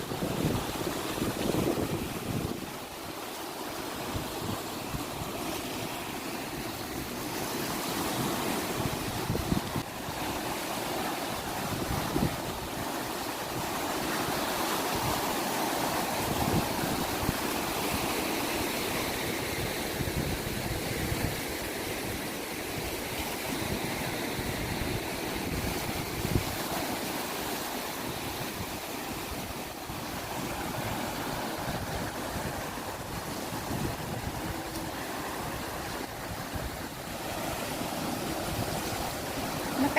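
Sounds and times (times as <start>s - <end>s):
wind buffeting microphone: 0.0s - 2.9s, 8.0s - 39.9s
sea waves breaking: 0.0s - 39.9s.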